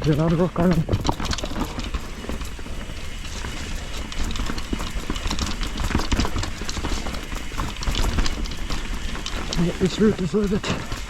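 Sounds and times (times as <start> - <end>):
bike rattling over rocks: 0.0 - 11.0.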